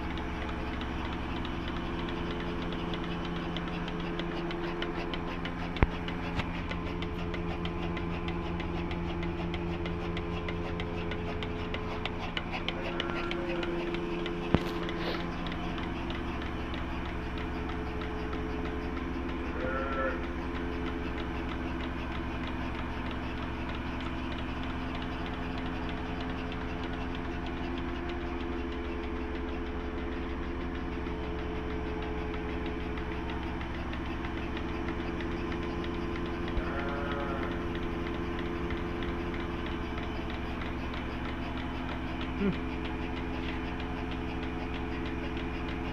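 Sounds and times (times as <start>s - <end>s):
machine humming: 0.0s - 45.9s.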